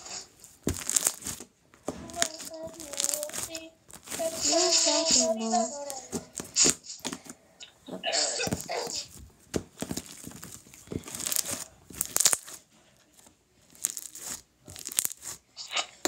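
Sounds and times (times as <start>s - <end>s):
slime squished in hands: 0.0s - 5.2s, 5.9s - 7.3s, 8.4s - 15.9s.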